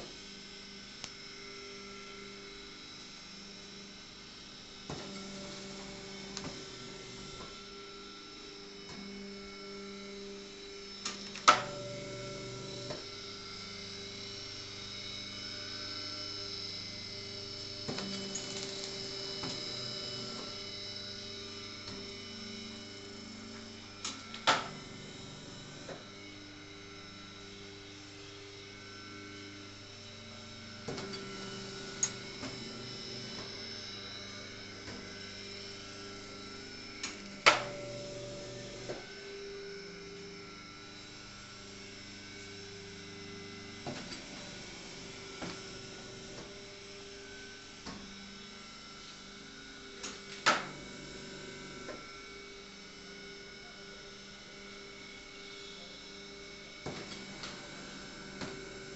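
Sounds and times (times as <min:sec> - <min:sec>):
electric motor hum: 0:00.0 - 0:58.9.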